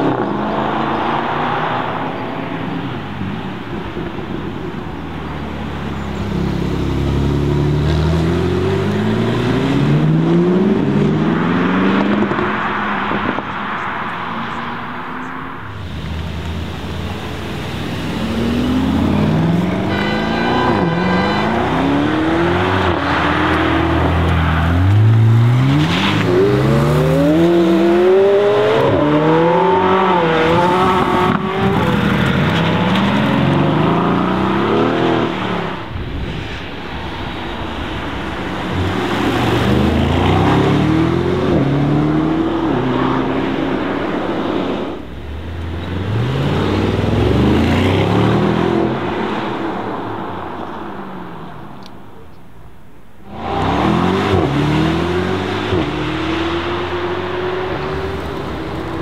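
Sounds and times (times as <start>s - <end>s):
sports car engines accelerating hard: 0.0s - 36.0s, 37.7s - 52.1s, 53.2s - 59.0s.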